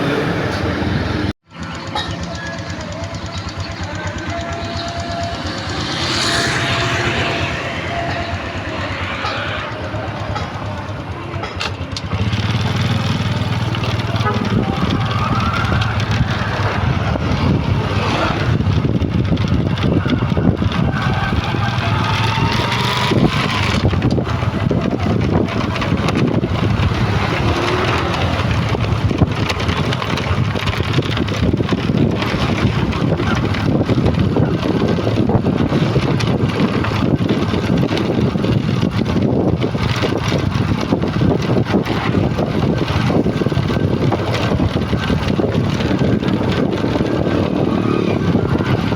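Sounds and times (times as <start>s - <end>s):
heavy truck engine running: 0.0s - 48.9s.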